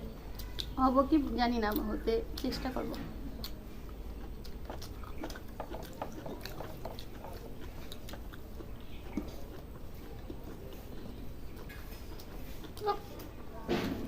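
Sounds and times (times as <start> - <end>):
person chewing food: 0.2 - 13.6.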